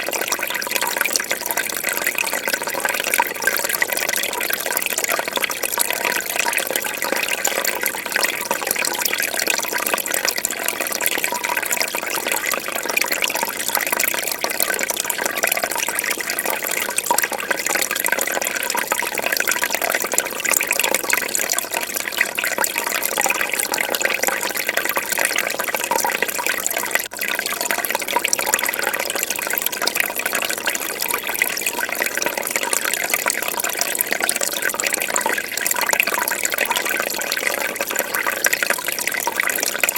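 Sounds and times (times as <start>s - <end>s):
fish tank water bubbling: 0.0s - 39.9s.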